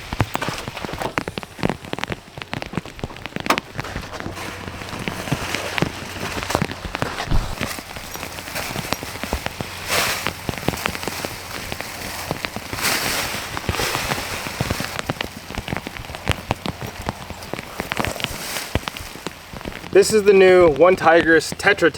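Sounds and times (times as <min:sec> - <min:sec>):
rain hissing: 0:00.0 - 0:21.9
raindrops striking sharply: 0:00.0 - 0:21.9.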